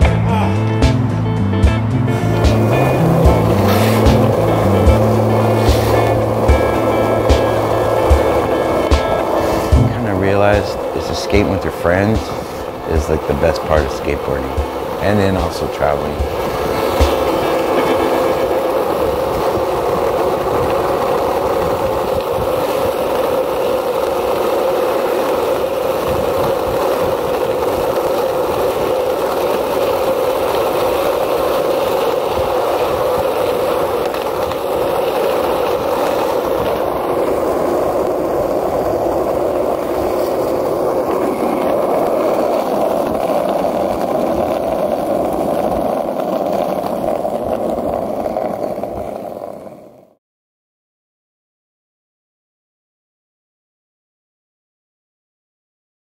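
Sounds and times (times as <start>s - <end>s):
skateboard wheels rolling on asphalt: 0.0s - 50.2s.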